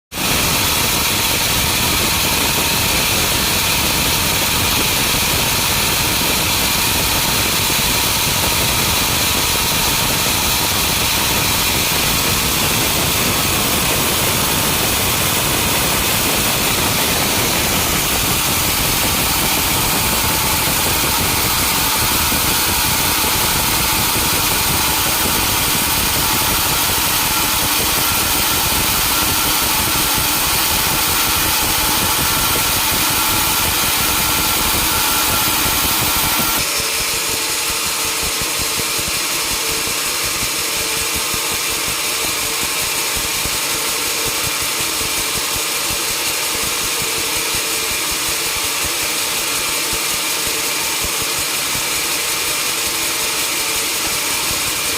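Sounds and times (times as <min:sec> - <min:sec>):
sawmill engine running: 0:00.2 - 0:54.9.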